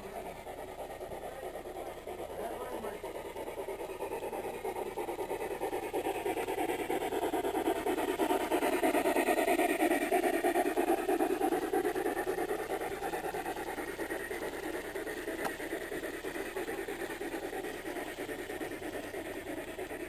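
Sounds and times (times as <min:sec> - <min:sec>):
model train running past: 0:00.0 - 0:20.0.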